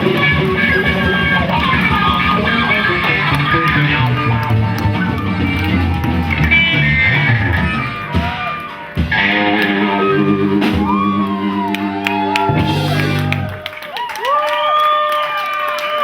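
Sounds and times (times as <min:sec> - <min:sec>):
live band with guitar: 0:00.0 - 0:13.9.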